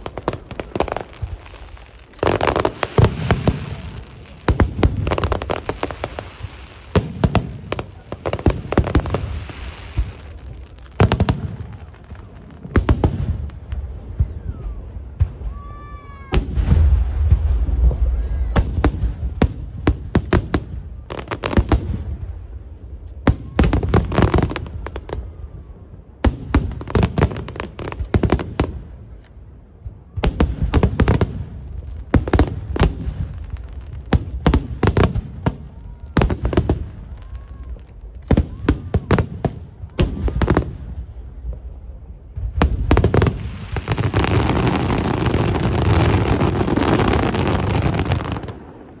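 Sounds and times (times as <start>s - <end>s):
fireworks bursting: 0.0s - 49.0s
fireworks crackle: 0.0s - 49.0s.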